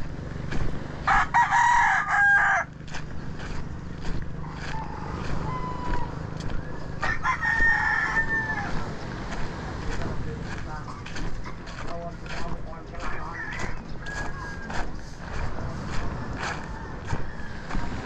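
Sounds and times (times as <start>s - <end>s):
footsteps on pebbles: 0.0s - 18.0s
low steady rumble: 0.0s - 18.0s
roosters crowing: 0.9s - 10.1s, 12.3s - 18.0s.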